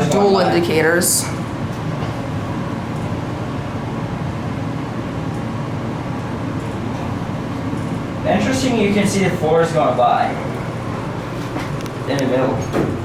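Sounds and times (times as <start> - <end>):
elevator cab air rumble: 0.0 - 13.0.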